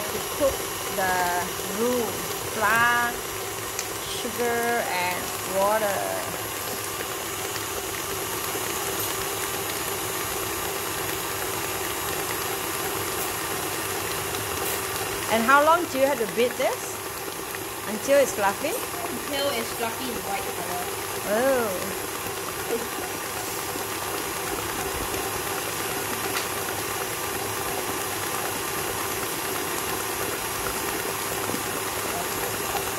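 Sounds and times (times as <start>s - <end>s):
beater whipping butter in bowl: 0.0s - 32.9s
stand mixer motor running: 0.0s - 32.9s.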